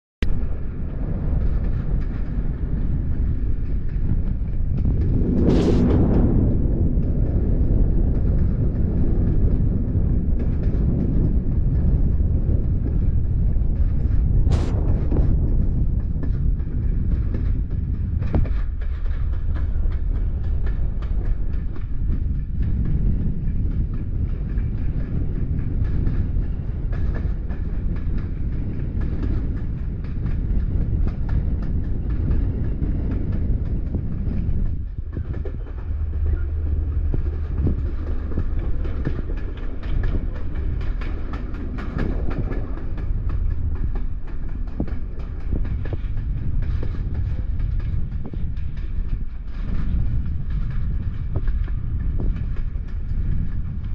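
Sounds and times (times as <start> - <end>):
train rumbling on rails: 0.2 - 53.9.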